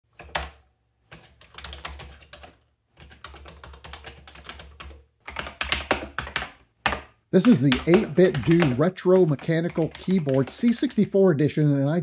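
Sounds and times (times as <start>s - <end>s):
rapid keyboard typing: 0.1s - 11.2s.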